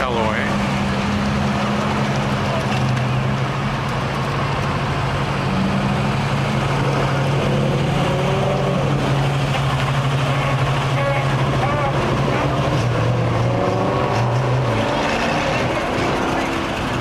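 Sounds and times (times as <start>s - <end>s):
car engines idling: 0.0s - 17.0s.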